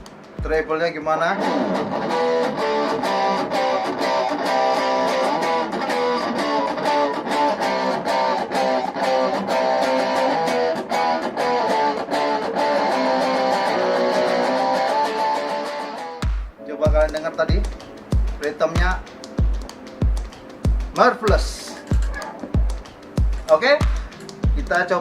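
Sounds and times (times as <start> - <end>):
distorted electric guitar riff: 1.3 - 24.7.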